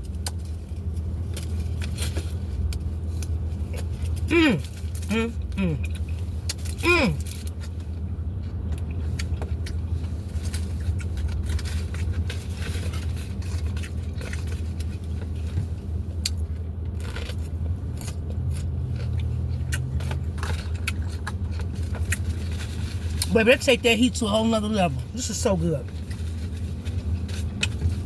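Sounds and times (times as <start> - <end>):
crunching bites and chewing: 0.0 - 15.6, 16.2 - 23.3
steady low hum: 0.0 - 28.0.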